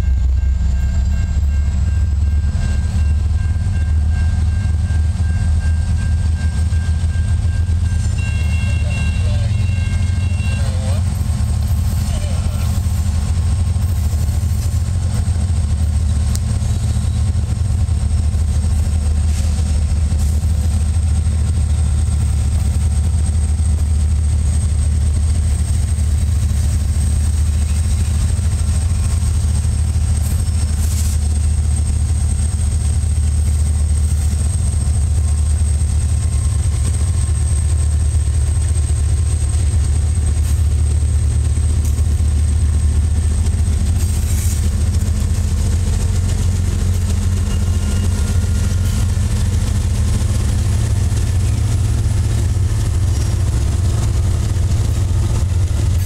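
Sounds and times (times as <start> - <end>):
locomotive engine rumble: 0.0 - 56.0.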